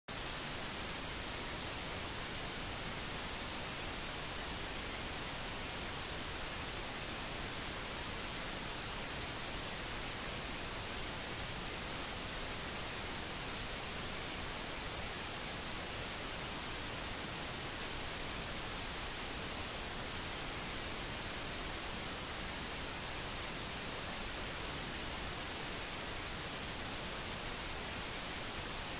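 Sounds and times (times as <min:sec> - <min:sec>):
steady static hiss: 0:00.1 - 0:28.9.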